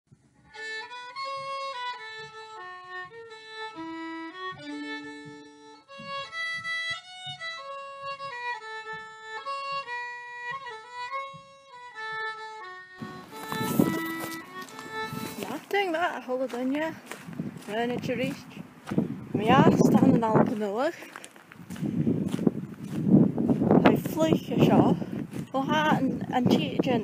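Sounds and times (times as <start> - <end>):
fiddle playing a tune: 0.4 - 27.0.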